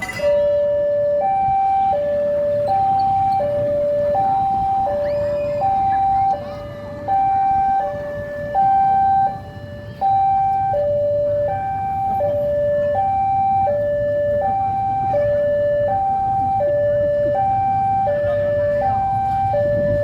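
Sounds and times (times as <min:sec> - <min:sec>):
level crossing two-tone alarm: 0:00.0 - 0:20.0
low traffic engine rumble: 0:00.0 - 0:20.0.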